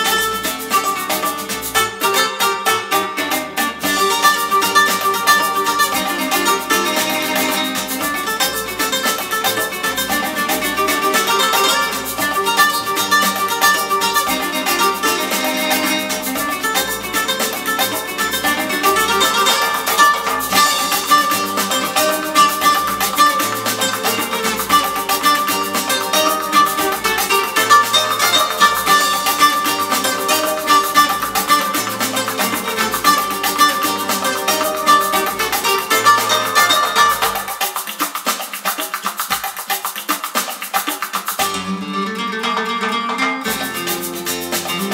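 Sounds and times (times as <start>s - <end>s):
plucked string music from loudspeakers: 0.0s - 44.9s.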